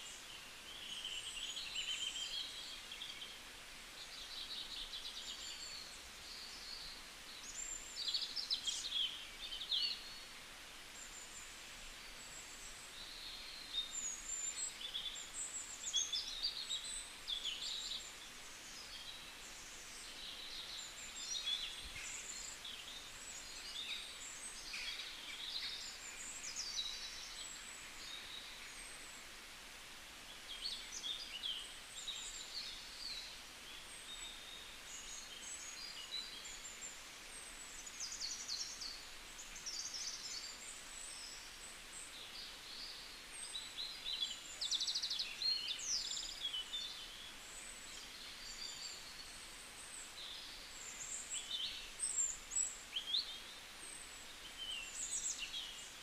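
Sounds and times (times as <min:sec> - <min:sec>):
birds chirping and twittering: 0:00.0 - 0:29.5, 0:30.3 - 0:56.0
faint steady hiss: 0:00.0 - 0:56.0.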